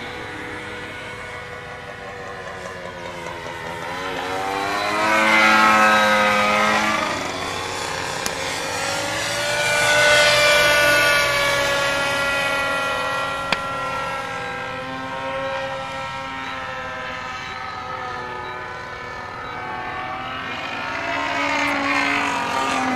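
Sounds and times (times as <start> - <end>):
model airplane engine passing by: 0.0 - 22.9.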